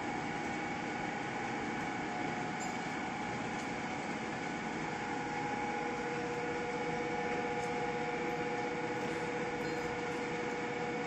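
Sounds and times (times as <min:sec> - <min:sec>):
machine whining tones: 0:00.0 - 0:11.0
ring-bending machine humming: 0:00.0 - 0:11.0.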